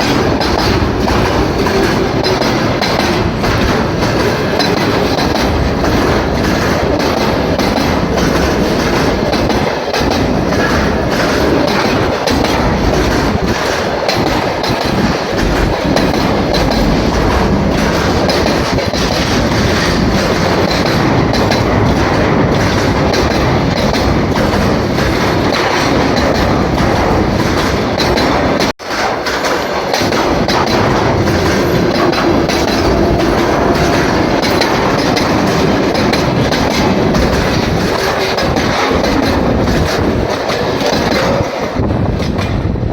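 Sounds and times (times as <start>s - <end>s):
train wheels clattering over rail joints: 0.0s - 42.9s.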